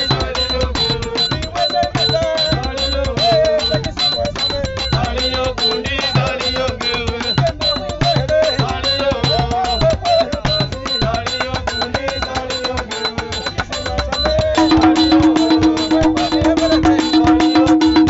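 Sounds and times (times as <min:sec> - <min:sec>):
fast drum beat: 0:00.0 - 0:18.0.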